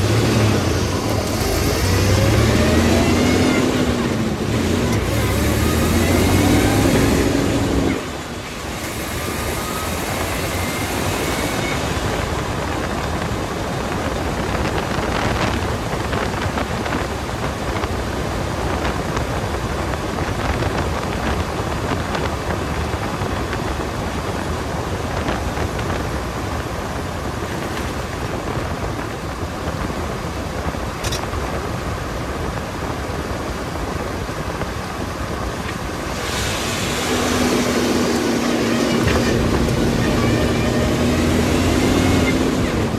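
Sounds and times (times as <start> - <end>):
engine hum: 0.0 - 42.9
road rumble: 0.0 - 42.9
steady wind: 0.0 - 42.9.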